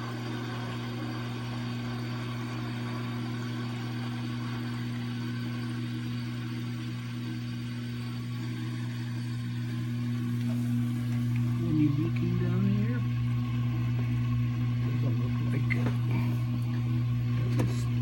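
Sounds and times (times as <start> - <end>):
drain pump humming: 0.0 - 18.0.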